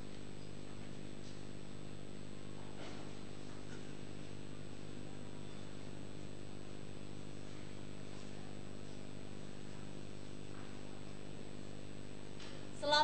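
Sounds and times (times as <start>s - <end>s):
electrical mains hum: 0.0s - 13.0s
faint high whine: 0.0s - 13.0s.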